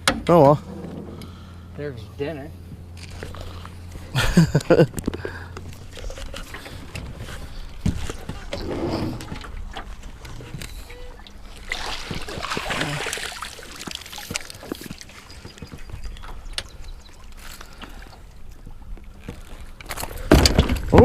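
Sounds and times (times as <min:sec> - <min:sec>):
knocks and clatter in a boat: 0:00.0 - 0:01.4, 0:03.9 - 0:12.9, 0:13.8 - 0:21.0
faint steady hum: 0:00.0 - 0:20.9
water splashing: 0:02.5 - 0:21.0.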